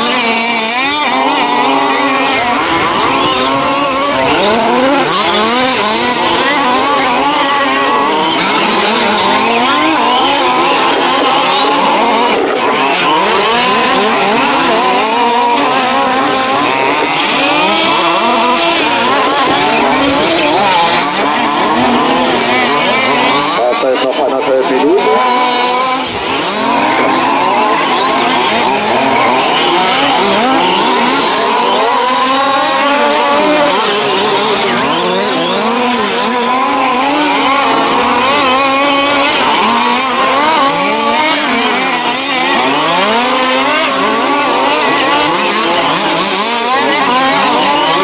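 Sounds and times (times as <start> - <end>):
rc car engines revving: 0.0 - 48.0.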